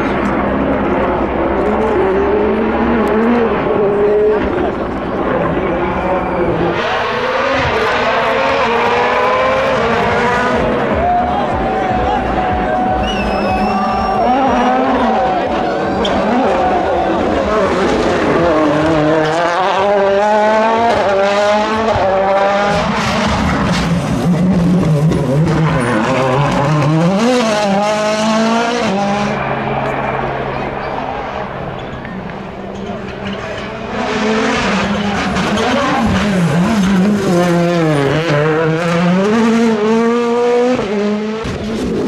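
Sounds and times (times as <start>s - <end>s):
rally car engine at full throttle: 0.0s - 42.0s.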